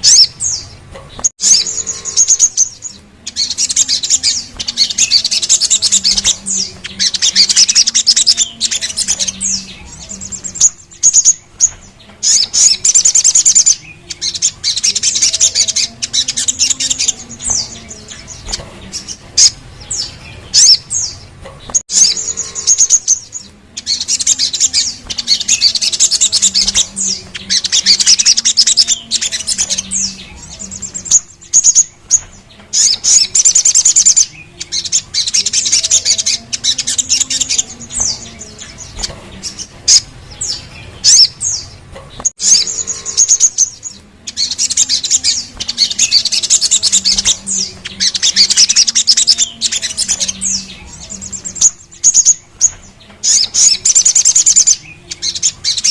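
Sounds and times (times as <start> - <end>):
bird trilling: 0.0 - 55.9.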